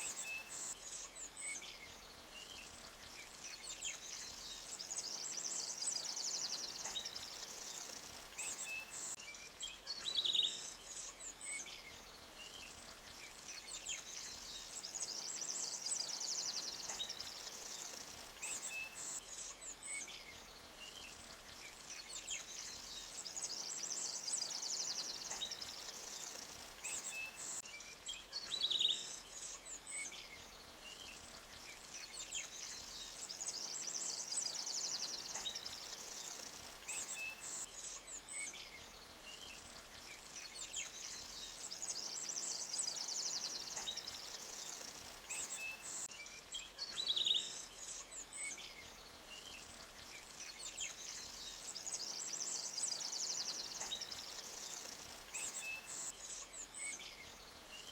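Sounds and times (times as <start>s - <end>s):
small birds chirping and trilling: 0.0s - 57.9s.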